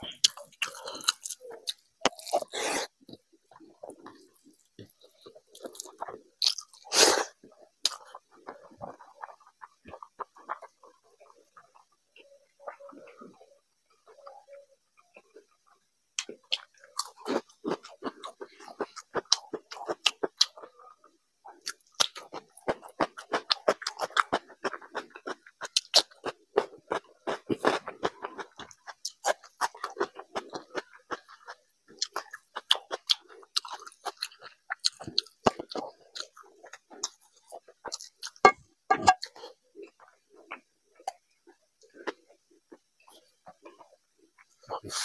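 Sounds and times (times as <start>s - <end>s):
chewing and crunching crisp food: 0.0s - 45.0s.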